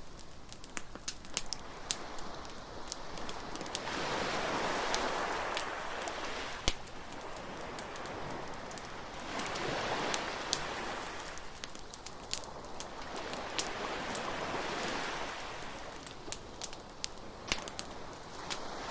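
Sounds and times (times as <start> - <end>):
bonfire crackling and popping: 0.0 - 18.9
surf washing in: 1.4 - 18.9.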